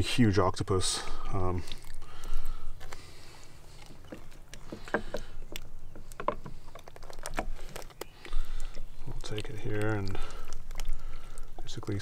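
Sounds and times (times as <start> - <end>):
wet handling noise: 0.0 - 12.0.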